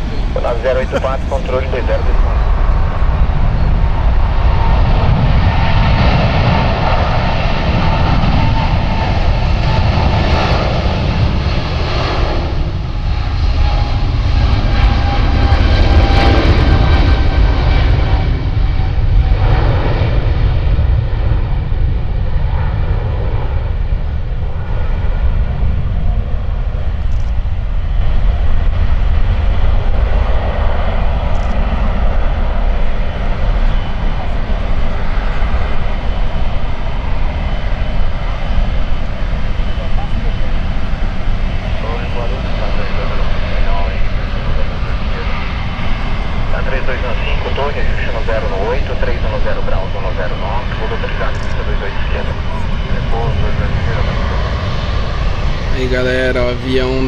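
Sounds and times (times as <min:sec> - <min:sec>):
faint jet engine whine: 0:00.0 - 0:57.0
jet engines rumbling: 0:00.0 - 0:57.0.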